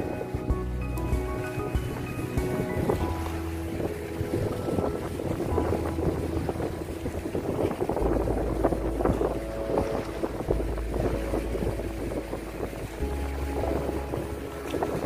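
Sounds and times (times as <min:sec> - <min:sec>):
background music with deep bass: 0:00.0 - 0:15.0
wind buffeting microphone: 0:00.0 - 0:15.0.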